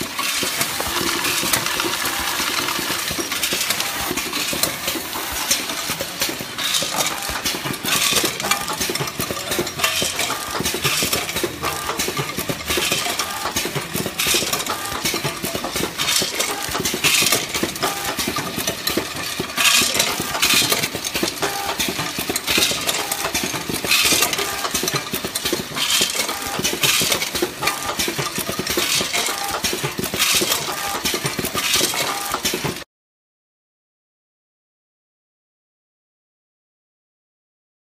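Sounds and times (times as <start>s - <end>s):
mothballs rattling through machine: 0.2s - 32.2s.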